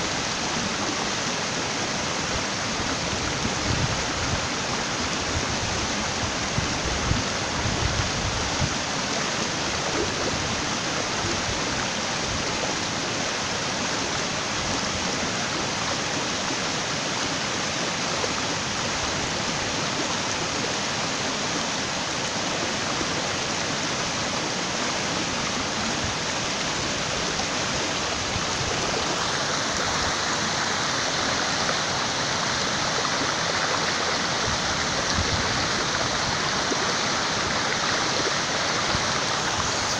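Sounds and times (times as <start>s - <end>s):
water rushing down a spillway: 0.0s - 39.9s.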